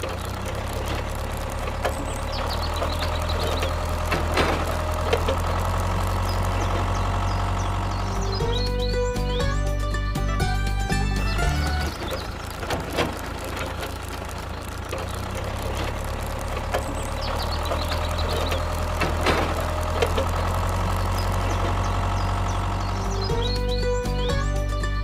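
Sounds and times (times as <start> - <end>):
clicks and knocks: 0.0 - 8.7, 10.4 - 23.4
engine idling: 0.0 - 25.0.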